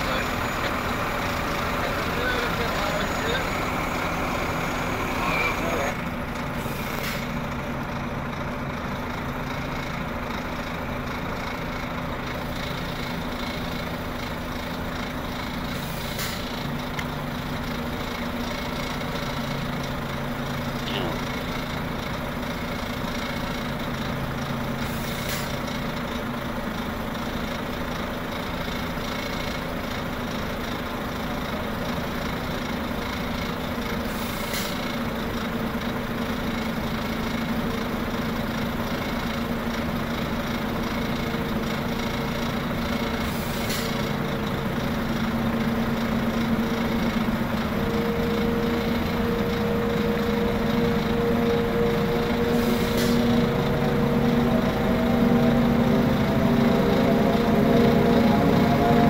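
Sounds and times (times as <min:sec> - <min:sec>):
diesel engine running low: 0:00.0 - 0:59.0.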